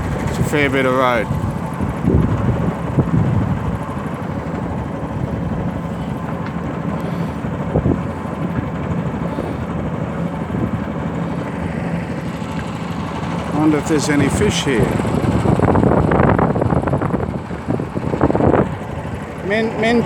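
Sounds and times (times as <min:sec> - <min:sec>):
ferry engine humming: 0:00.0 - 0:20.0.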